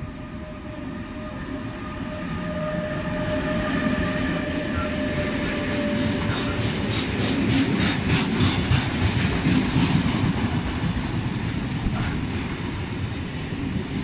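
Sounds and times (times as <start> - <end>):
electric locomotive hauling freight train: 0.0 - 14.0
steady locomotive whine: 0.0 - 14.0.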